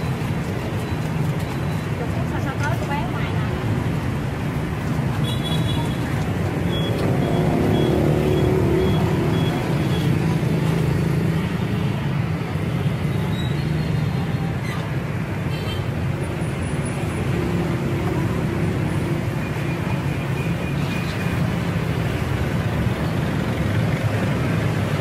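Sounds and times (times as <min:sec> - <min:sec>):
low traffic rumble: 0:00.0 - 0:25.0.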